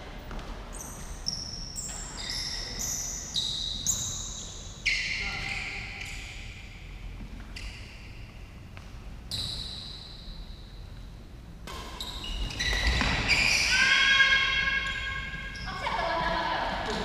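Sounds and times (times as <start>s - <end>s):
sports shoes squeaking on floor: 0.2s - 11.1s, 11.7s - 16.2s.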